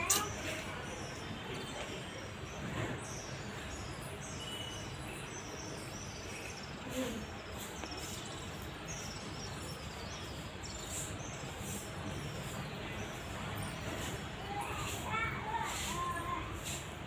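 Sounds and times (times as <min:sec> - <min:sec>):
small bird chirping: 0:00.0 - 0:16.8
outdoor background noise: 0:00.0 - 0:17.0.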